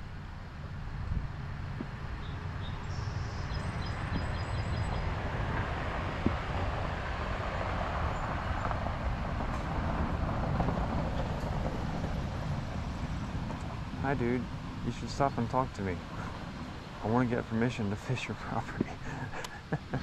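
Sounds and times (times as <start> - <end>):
road and wind noise: 0.0 - 20.0
vehicle engine rumble: 0.0 - 20.0.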